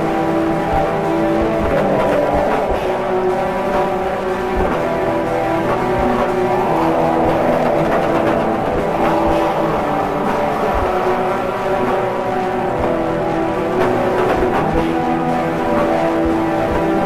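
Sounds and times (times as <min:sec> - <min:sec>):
distorted guitar chords: 0:00.0 - 0:17.0.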